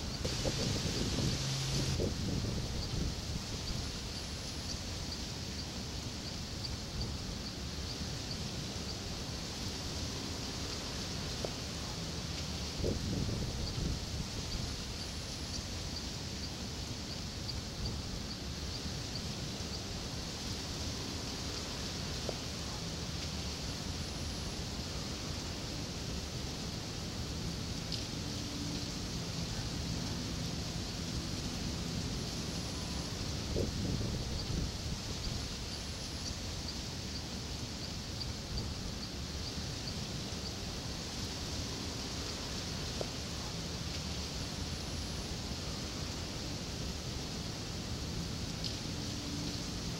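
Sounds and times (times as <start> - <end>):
steady hiss and low rumble: 0.0 - 49.9.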